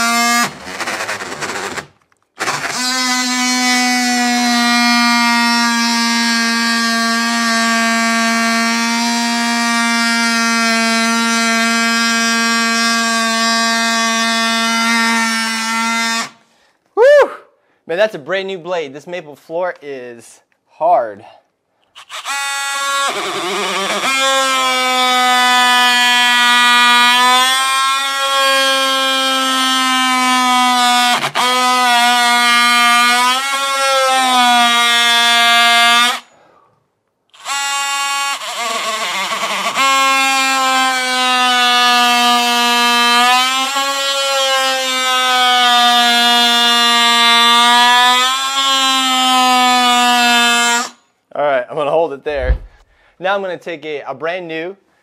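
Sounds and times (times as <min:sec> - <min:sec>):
oscillating multi-tool cutting wood: 0:00.0 - 0:16.4, 0:21.9 - 0:36.3, 0:37.3 - 0:51.0.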